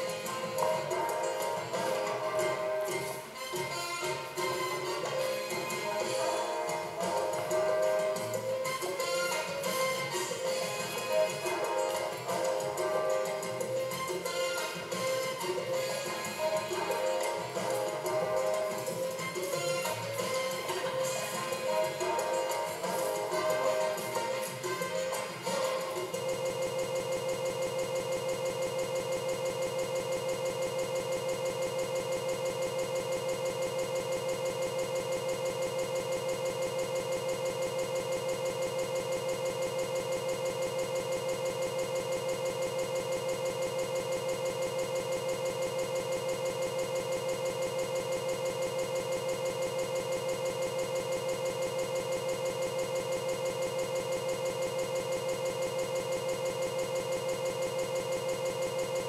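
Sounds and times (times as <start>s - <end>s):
looping corrupted digital buzz: 0.0s - 59.0s.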